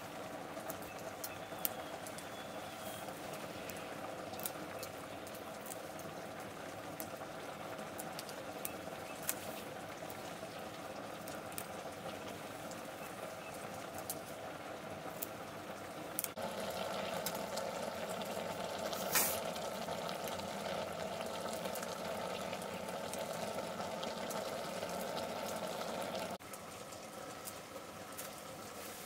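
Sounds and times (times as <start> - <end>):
water boiling in metal pot: 0.0 - 29.0
wood fire crackling: 0.0 - 29.0.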